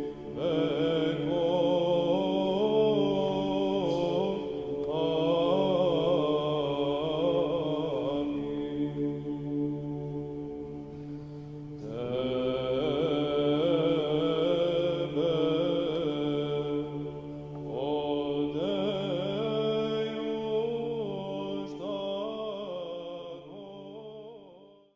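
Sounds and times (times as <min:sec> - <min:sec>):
low held chant drone: 0:00.0 - 0:24.7
ornamented sung melody: 0:00.0 - 0:24.9.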